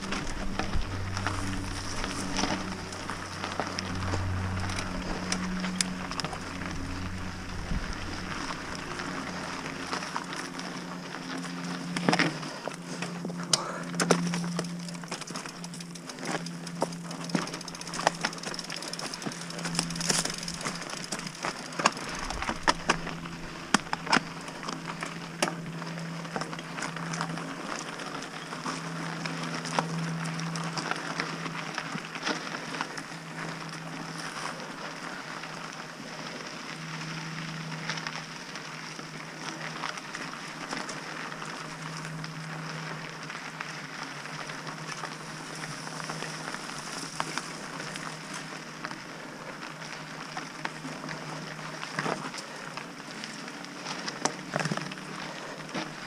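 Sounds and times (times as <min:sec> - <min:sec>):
bike rattling over bumps: 0:00.0 - 0:56.0
bike tyres crunching on dirt: 0:00.0 - 0:56.0.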